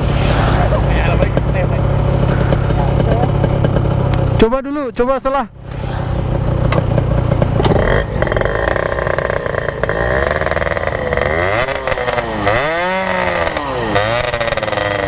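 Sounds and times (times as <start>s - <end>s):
motorcycle engine revving: 0.0s - 4.9s, 5.5s - 15.0s.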